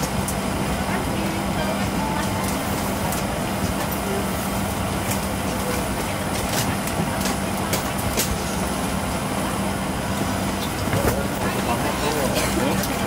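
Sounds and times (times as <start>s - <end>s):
airliner cabin hum and air hiss: 0.0s - 13.0s.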